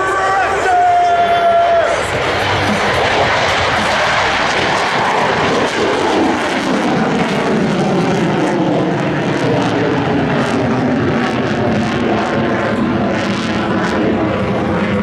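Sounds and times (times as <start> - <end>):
jet roar passing: 0.0 - 15.0.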